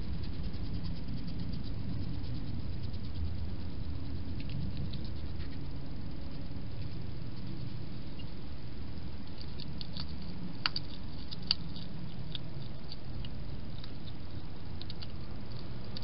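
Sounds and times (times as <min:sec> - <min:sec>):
hedgehog chewing clicks: 0:00.0 - 0:08.3, 0:09.2 - 0:16.0
steady low hum: 0:00.0 - 0:16.0.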